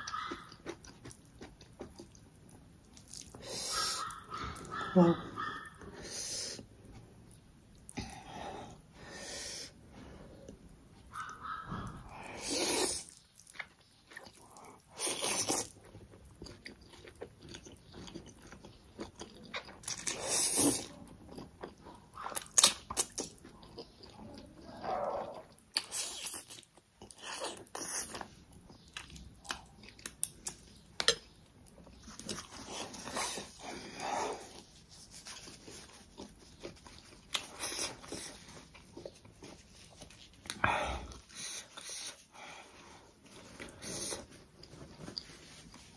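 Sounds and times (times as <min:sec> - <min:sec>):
wet chewing and smacking: 0:00.0 - 0:05.9, 0:10.4 - 0:42.3.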